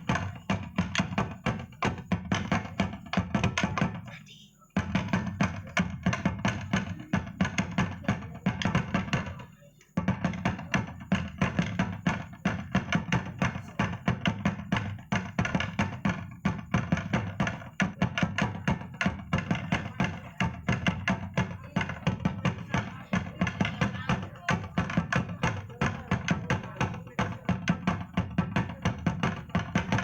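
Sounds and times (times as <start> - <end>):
dance music with fast drumming: 0.0 - 4.2, 4.8 - 30.0.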